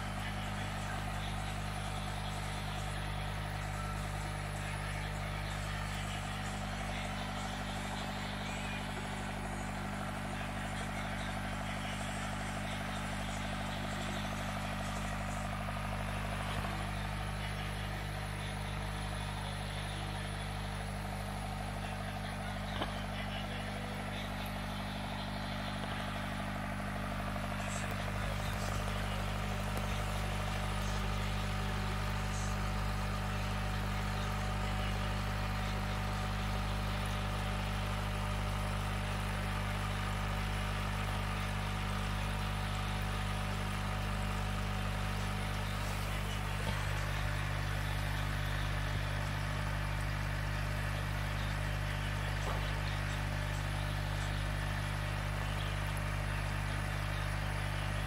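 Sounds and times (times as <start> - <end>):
aquarium air pump humming: 0.0 - 58.0.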